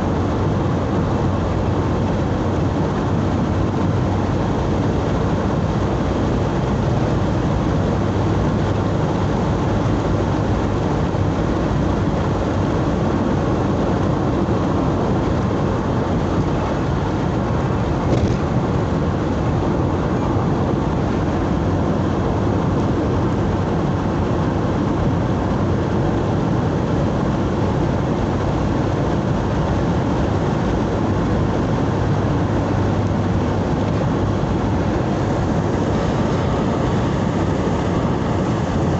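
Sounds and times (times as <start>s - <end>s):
vehicle engine and tyre noise: 0.0s - 38.9s.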